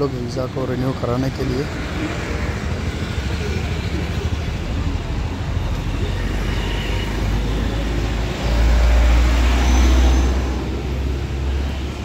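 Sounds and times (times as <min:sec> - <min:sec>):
street traffic road noise: 0:00.0 - 0:12.0.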